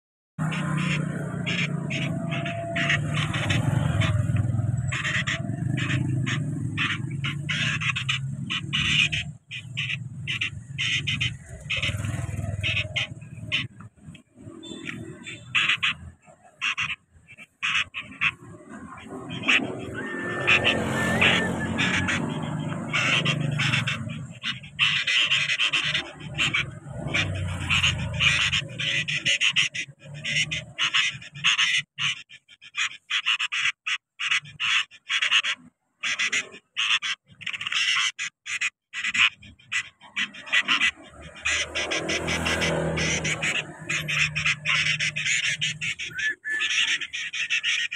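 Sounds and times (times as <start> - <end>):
nestlings chirping: 0.4 - 47.9.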